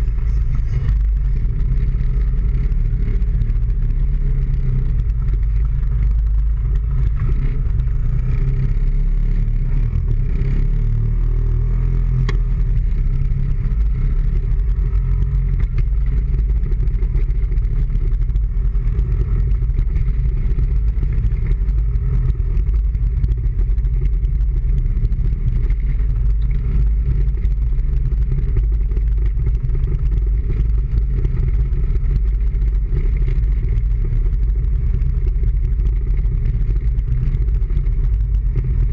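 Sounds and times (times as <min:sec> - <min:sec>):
motorbike engine running: 0:00.0 - 0:38.9
wind rumble on microphone: 0:00.0 - 0:38.9.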